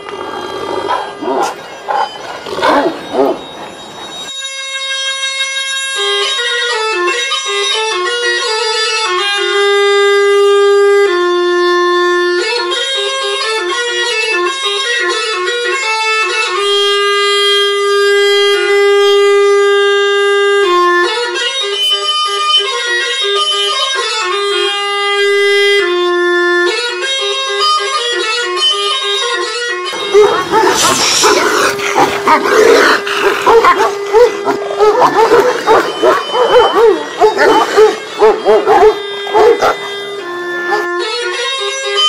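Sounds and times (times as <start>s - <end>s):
wind instrument melody: 0.0s - 42.0s.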